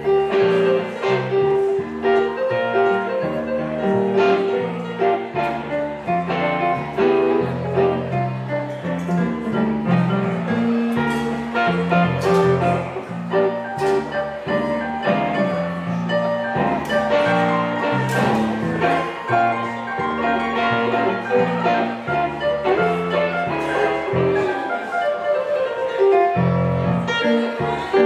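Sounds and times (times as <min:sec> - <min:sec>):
electric keyboard: 0:00.0 - 0:28.0.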